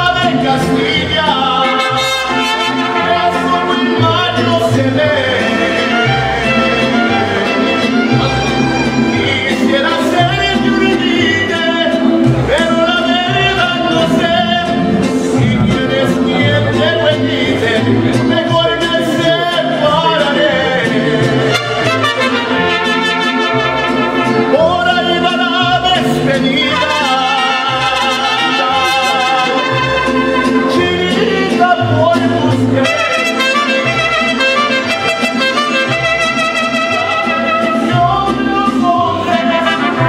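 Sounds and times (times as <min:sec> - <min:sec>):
man singing: 0:00.0 - 0:40.0
mariachi band playing: 0:00.0 - 0:40.0.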